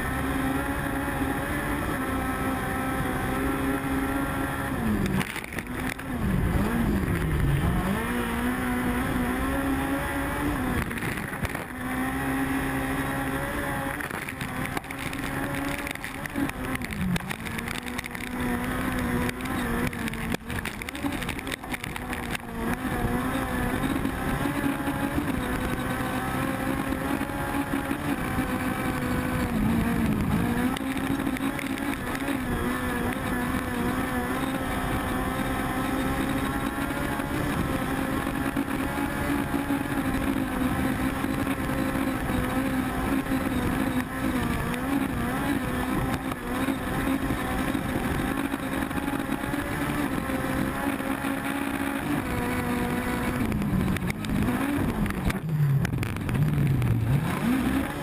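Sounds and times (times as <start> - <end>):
car engine revving hard: 0.0 - 58.0.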